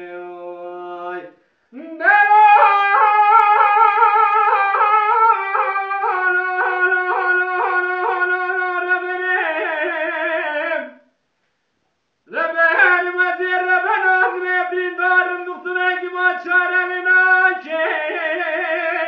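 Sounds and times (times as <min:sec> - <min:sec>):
man singing unaccompanied: 0:00.0 - 0:11.1, 0:12.2 - 0:19.0.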